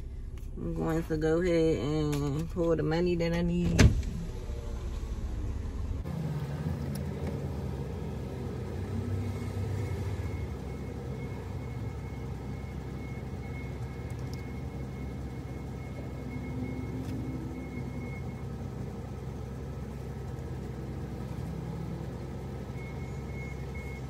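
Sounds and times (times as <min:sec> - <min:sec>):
engine idling: 0:04.1 - 0:24.0.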